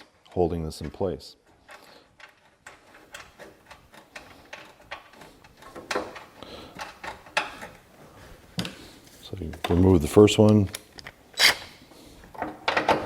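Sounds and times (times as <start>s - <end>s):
tools clicking and knocking: 0.0s - 7.9s, 9.5s - 13.0s.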